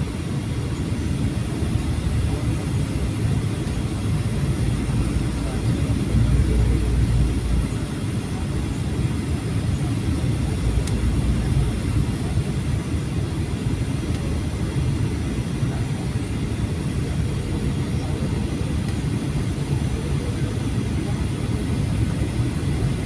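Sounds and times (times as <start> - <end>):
airplane cabin engine rumble: 0.0 - 23.0.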